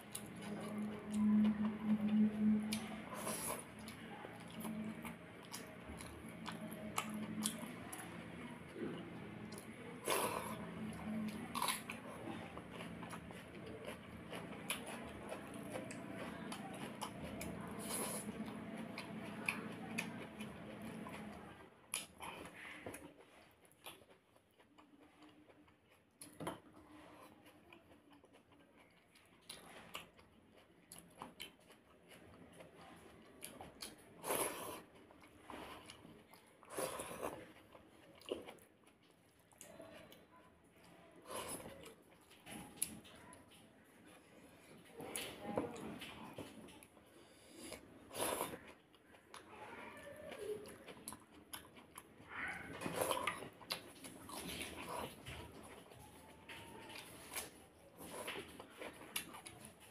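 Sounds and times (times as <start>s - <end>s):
chewing: 0.0s - 59.9s.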